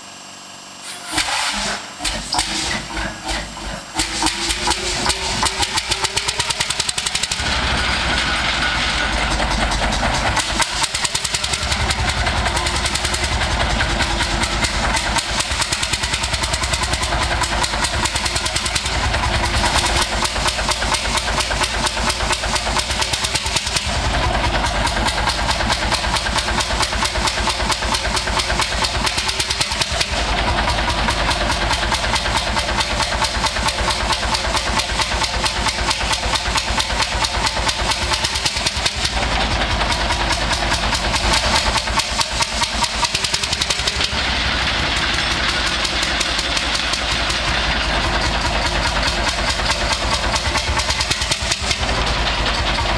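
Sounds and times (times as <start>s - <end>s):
old engine running: 1.1s - 52.9s.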